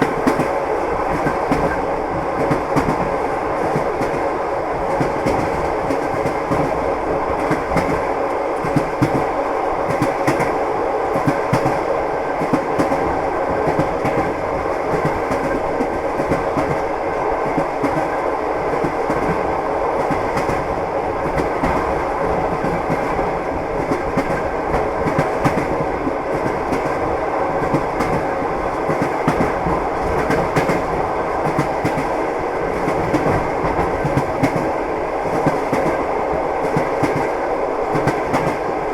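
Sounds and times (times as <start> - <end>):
train carriage rumbling: 0.0 - 38.9.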